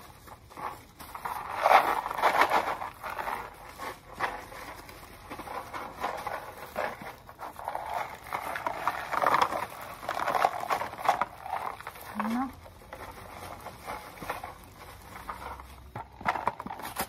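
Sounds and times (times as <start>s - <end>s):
plastic packaging rustling: 0.0s - 17.0s.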